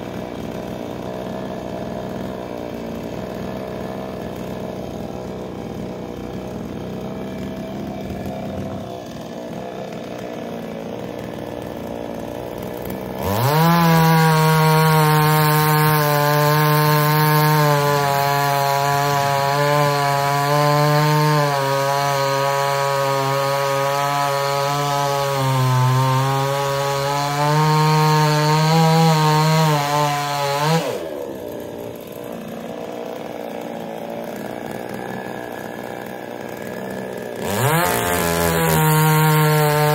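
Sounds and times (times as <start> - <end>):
chainsaw revving and cutting log: 0.0 - 39.9.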